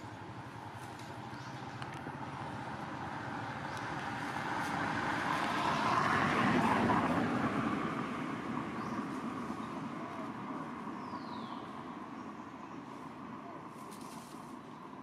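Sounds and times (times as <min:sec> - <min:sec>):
vehicle passing by: 0:00.0 - 0:12.4.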